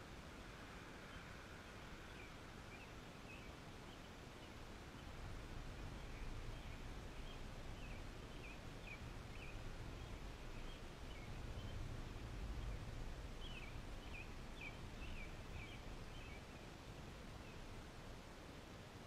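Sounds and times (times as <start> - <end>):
low outdoor rumble: 0.0 - 19.0
songbird chirping: 0.5 - 17.9.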